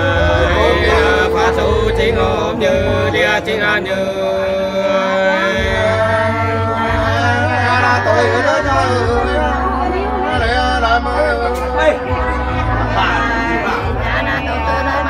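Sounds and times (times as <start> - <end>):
voices singing wavering notes: 0.0 - 15.0.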